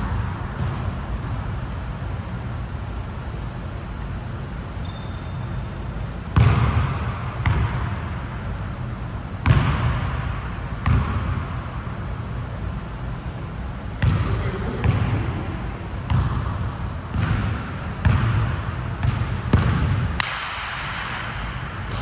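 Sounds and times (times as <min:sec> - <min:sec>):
room hum: 0:00.0 - 0:18.2, 0:19.3 - 0:22.0.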